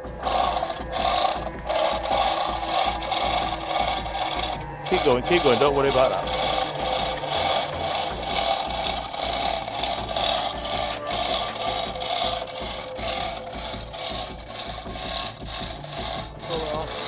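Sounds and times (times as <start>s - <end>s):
hoist chain rasping rattle: 0.0s - 17.0s.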